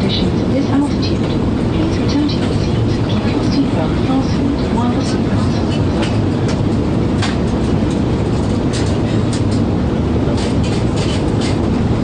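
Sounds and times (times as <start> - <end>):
airliner engines droning: 0.0 - 12.0.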